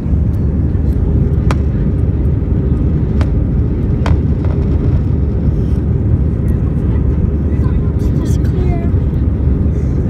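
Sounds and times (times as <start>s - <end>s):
jet engine cabin rumble: 0.0s - 10.0s.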